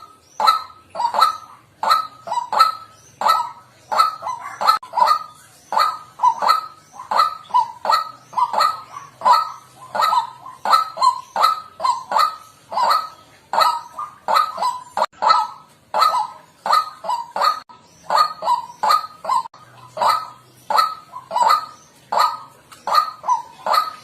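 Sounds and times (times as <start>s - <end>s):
bird harsh honking calls: 0.0s - 24.0s.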